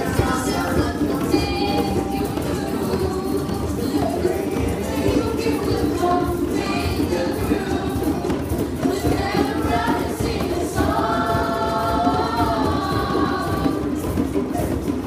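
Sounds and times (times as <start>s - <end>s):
group of voices singing: 0.0s - 15.0s
hand drums playing: 0.0s - 15.0s.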